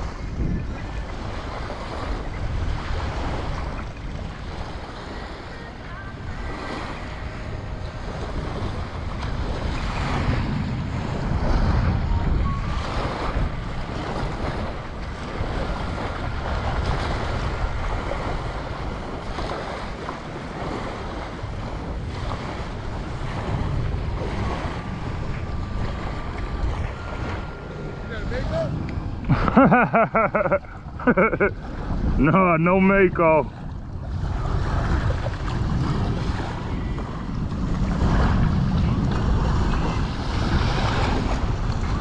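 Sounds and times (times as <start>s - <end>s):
small surf waves washing up: 0.0s - 42.0s
wind buffeting microphone: 0.0s - 42.0s.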